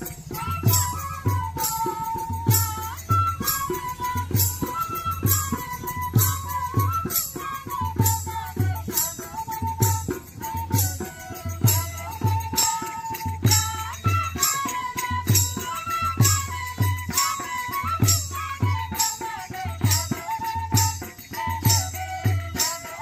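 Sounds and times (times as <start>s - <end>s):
high wavering melody: 0.0s - 23.0s.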